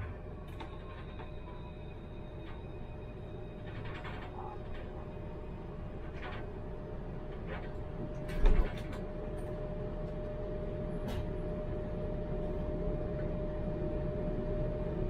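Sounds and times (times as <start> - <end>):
tram running hum: 0.0 - 15.0.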